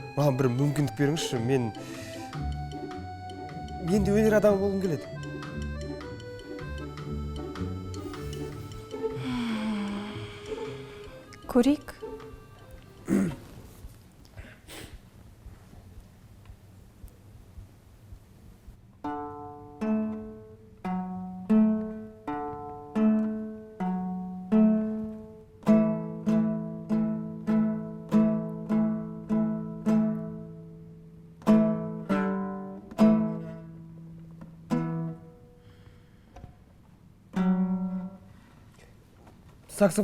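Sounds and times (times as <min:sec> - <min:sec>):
plucked string instrument tune: 0:00.0 - 0:13.8, 0:18.9 - 0:36.3, 0:37.0 - 0:38.5.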